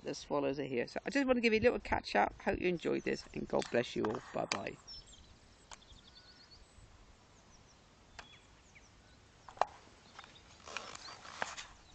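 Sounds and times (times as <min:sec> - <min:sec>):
small birds chirping: 0:02.1 - 0:11.9.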